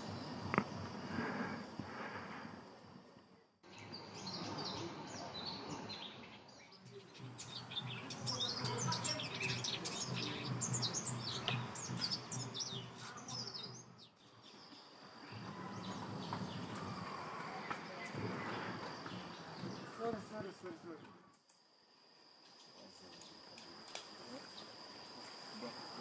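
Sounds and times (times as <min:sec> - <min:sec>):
forest birds chirping: 0:00.0 - 0:26.0.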